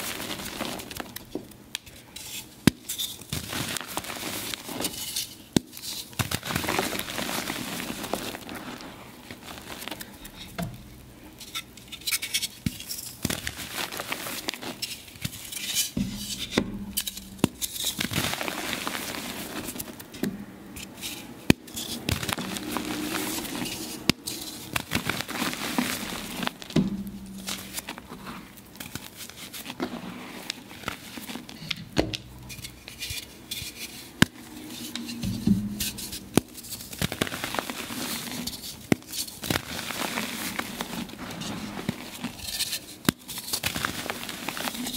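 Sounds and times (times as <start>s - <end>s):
chalk crunching and crackling: 0.0s - 1.4s, 2.0s - 31.7s, 32.3s - 44.9s.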